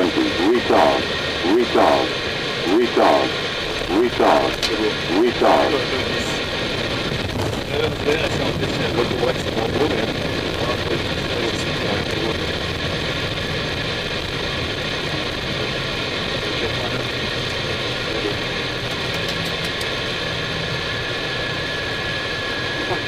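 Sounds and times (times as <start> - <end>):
engine and airflow rumble: 0.0 - 23.0
steady whining tones: 0.0 - 23.0.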